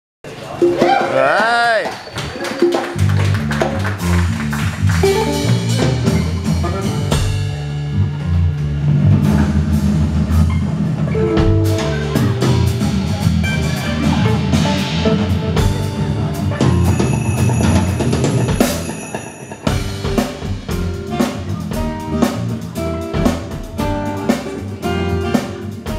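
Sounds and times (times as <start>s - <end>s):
percussion beating time: 0.5s - 25.9s
electric bass line: 3.0s - 19.0s, 19.7s - 25.9s.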